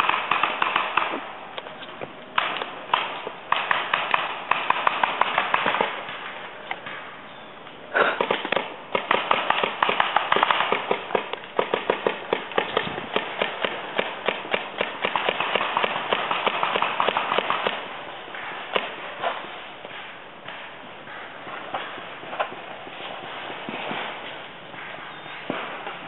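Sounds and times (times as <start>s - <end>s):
paintball markers firing pops: 0.0s - 7.0s, 8.2s - 22.6s.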